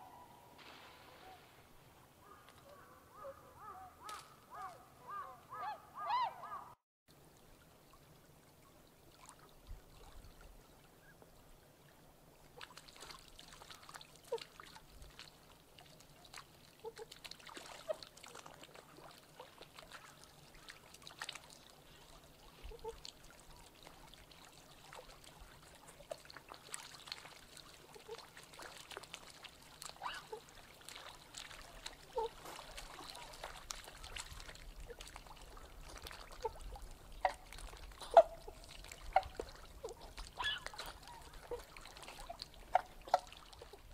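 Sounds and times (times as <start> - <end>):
soft swan calls: 0.0 - 1.6, 2.2 - 6.8, 12.5 - 43.9
water lapping and splashing: 7.1 - 43.9.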